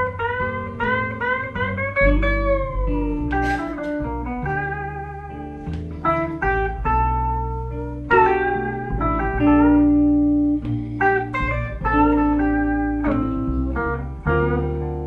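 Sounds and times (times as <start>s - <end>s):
blues guitar lead: 0.0s - 15.0s
plucked double bass: 0.0s - 15.0s.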